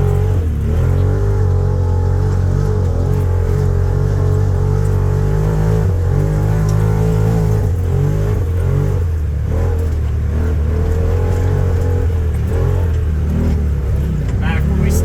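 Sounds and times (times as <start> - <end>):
vehicle engine droning under load: 0.0 - 15.0.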